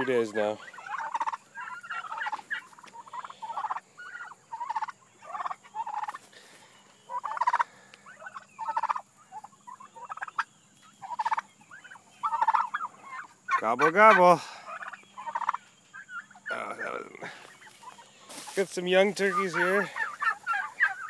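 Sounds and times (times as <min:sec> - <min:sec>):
turkeys gobbling: 0:00.0 - 0:21.0.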